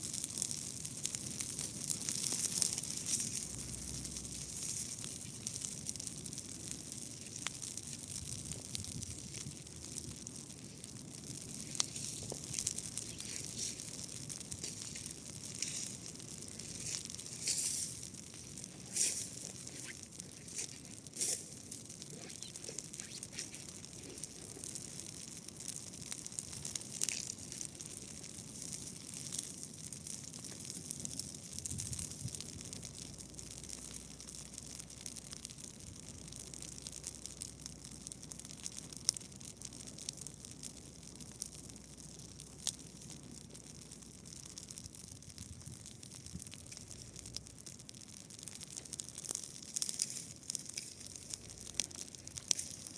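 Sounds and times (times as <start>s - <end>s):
dry grass crackling: 0.0s - 52.9s.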